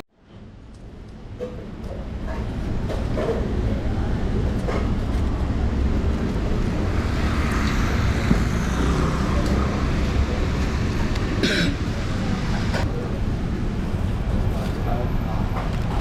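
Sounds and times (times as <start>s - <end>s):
busy street rumble: 0.2s - 16.0s.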